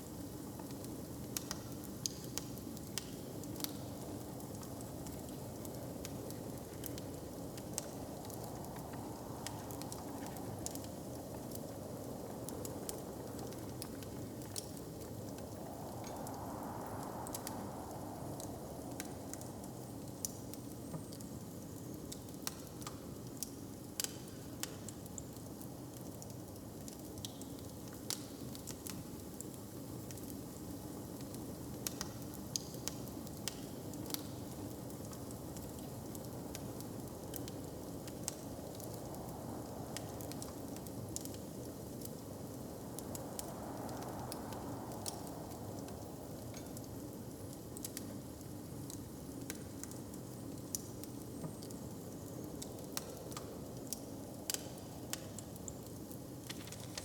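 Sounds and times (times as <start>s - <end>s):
fire crackling: 0.1s - 27.0s, 27.6s - 57.0s.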